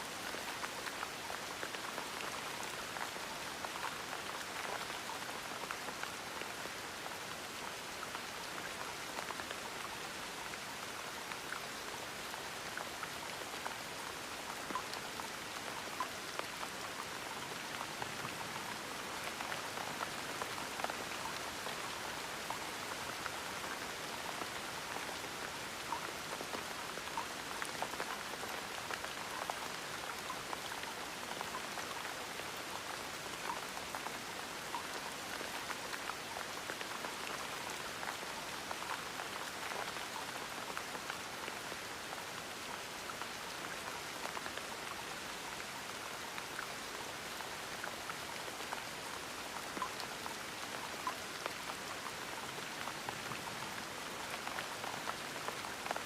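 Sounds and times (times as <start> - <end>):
rain drops pattering: 0.0 - 56.0.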